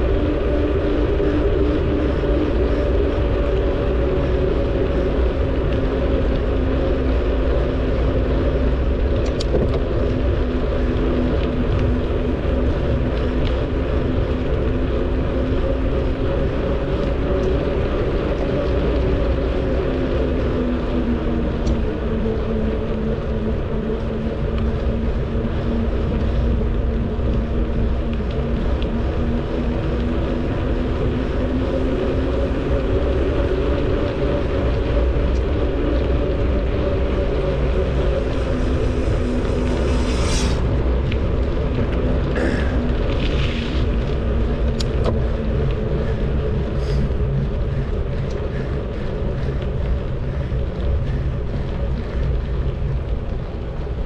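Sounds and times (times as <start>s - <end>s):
steady hum: 0.0s - 54.0s
wind rumbling over microphone: 0.0s - 54.0s.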